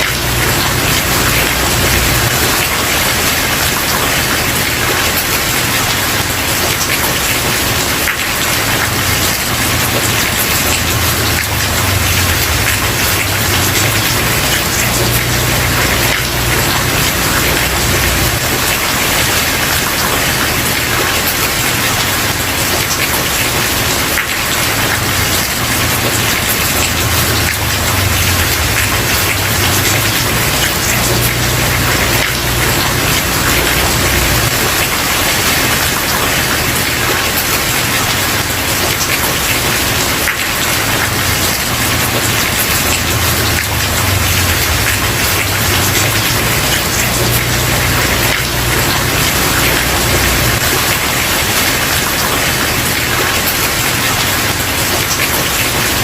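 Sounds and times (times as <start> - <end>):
rain on wooden porch: 0.0 - 56.0.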